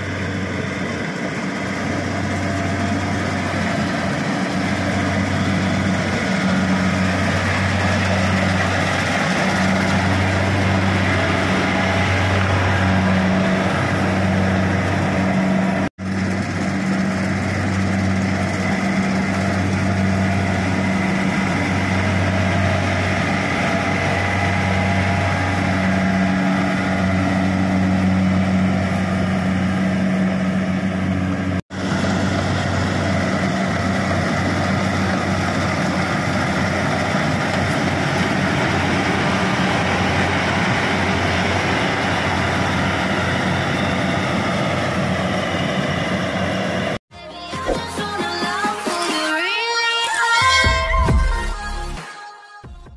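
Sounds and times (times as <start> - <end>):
combine harvester running: 0.0 - 47.0.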